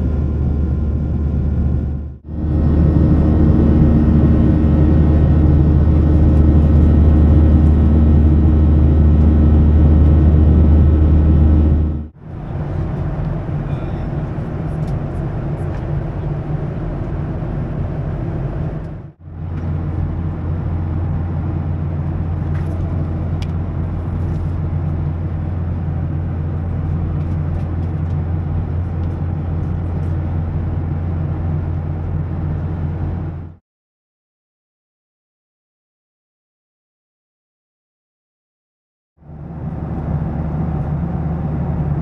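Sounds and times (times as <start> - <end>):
airliner cabin drone: 0.0 - 33.6, 39.2 - 42.0.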